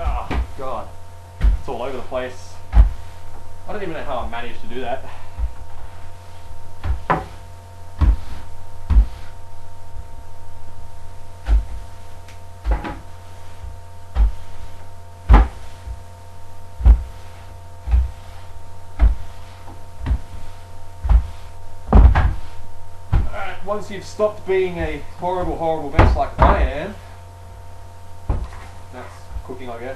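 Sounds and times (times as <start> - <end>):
broom knocking on floor: 0.0 - 10.1, 10.7 - 27.3, 28.2 - 29.7
steady low hum: 0.0 - 29.9.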